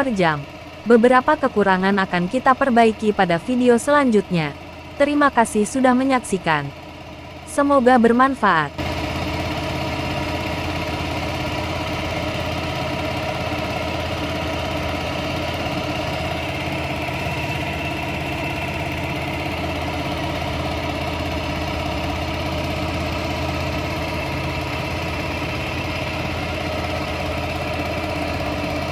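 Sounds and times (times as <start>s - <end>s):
outboard motor running: 0.0s - 28.9s.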